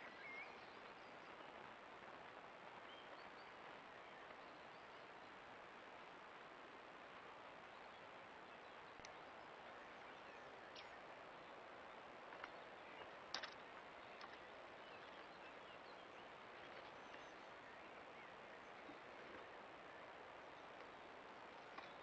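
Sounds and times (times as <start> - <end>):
faint microphone hiss: 0.0 - 22.0.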